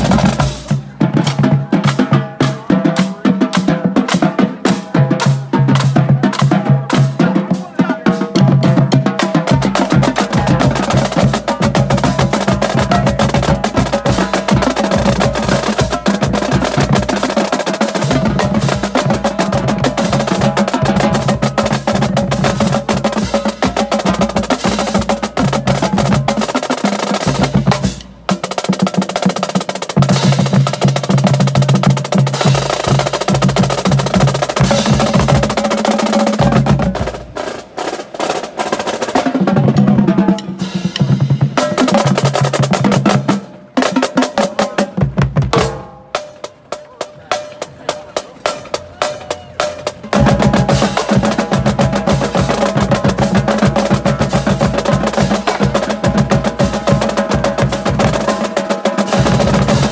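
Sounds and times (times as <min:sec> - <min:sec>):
marching drumline playing: 0:00.0 - 0:59.9.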